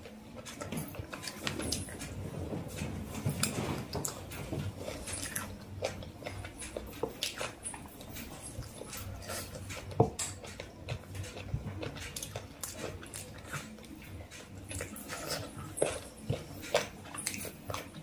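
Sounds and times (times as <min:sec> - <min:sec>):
chewing and wet mouth sounds: 0:00.0 - 0:18.0.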